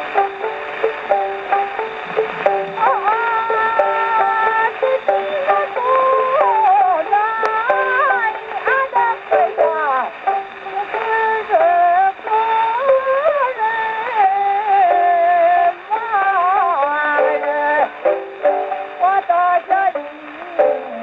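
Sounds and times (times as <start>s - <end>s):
plucked-string accompaniment: 0.0s - 21.0s
woman singing folk song: 0.0s - 21.0s.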